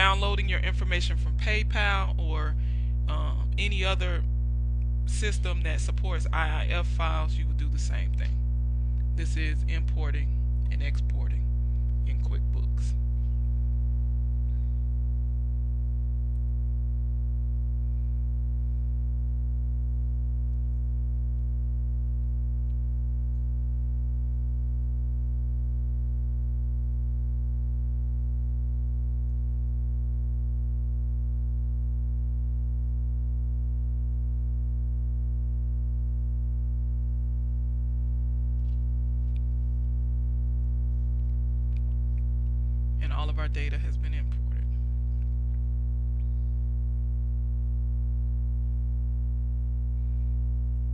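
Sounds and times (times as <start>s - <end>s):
low hum with faint buzz: 0.0s - 50.9s.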